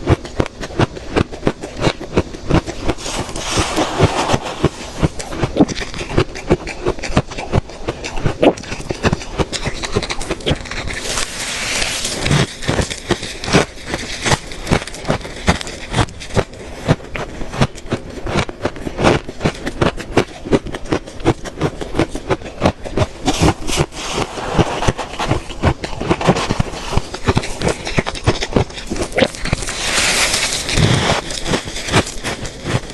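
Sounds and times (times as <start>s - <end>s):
ice being chewed: 0.0s - 32.9s.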